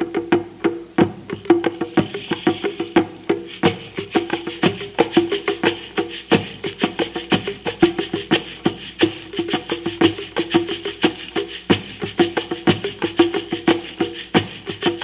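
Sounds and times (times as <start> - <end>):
hand percussion knocking strikes: 0.0 - 15.0.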